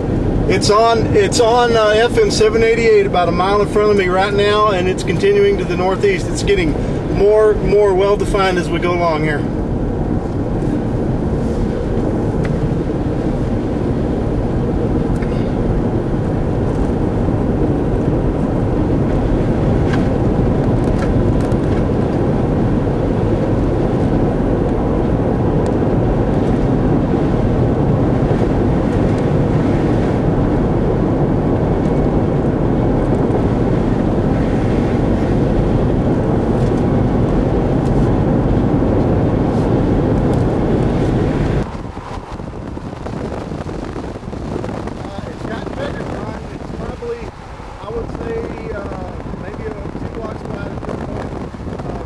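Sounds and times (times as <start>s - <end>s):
car road and engine noise: 0.0s - 52.0s
wind rushing: 0.0s - 52.0s.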